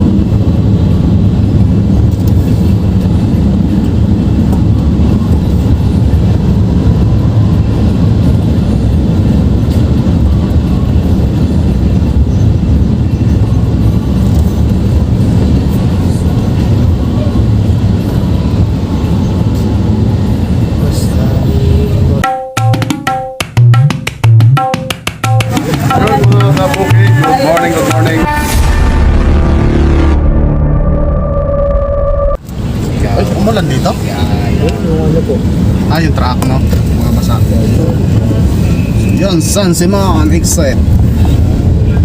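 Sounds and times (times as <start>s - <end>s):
wind rumble: 0.0s - 22.3s, 25.3s - 42.0s
road noise: 0.0s - 42.0s.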